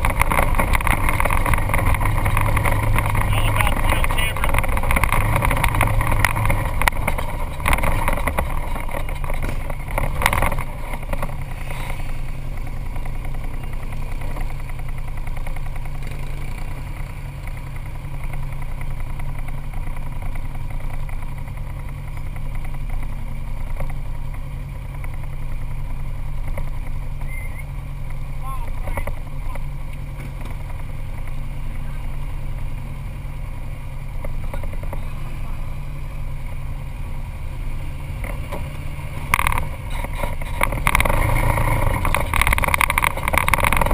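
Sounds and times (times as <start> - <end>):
atv engine idling: 0.0 - 43.9.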